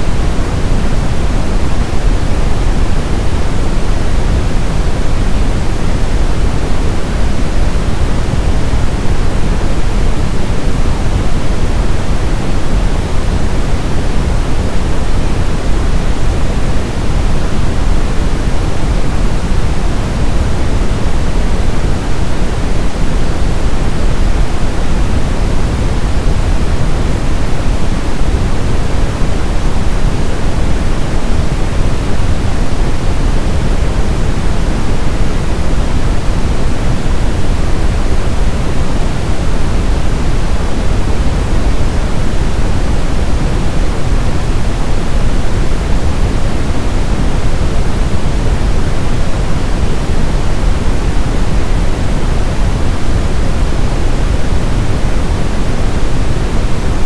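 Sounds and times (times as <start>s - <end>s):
brown noise: 0.0s - 57.0s.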